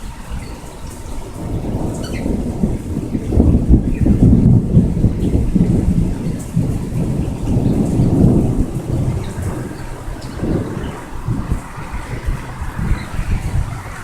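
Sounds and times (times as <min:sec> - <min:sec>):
rain: 0:00.0 - 0:14.0
thunder rumbling: 0:00.0 - 0:14.0.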